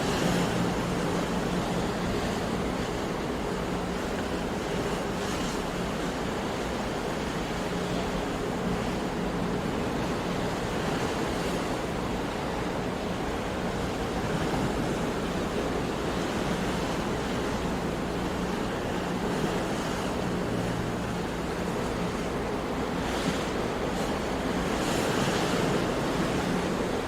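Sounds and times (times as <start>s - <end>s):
ocean waves washing on shore: 0.0s - 27.0s.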